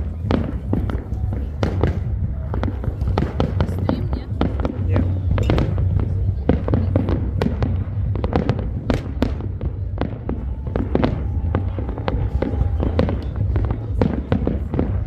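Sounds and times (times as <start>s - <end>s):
fireworks sharp bangs: 0.0s - 15.0s
low rumble of distant explosions: 0.0s - 15.0s.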